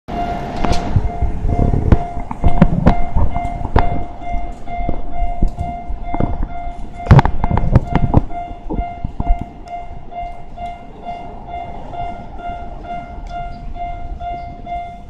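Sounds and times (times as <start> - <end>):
level crossing warning bell: 0.1 - 15.0.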